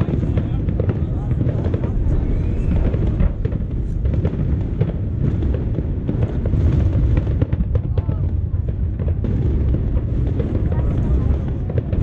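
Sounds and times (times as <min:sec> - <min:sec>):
firework booms: 0:00.0 - 0:12.0
firework cracks and crackles: 0:00.0 - 0:12.0.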